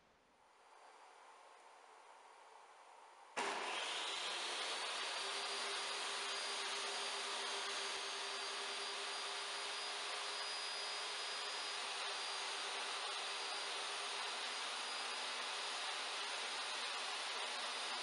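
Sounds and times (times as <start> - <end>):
table saw running: 3.4 - 18.0.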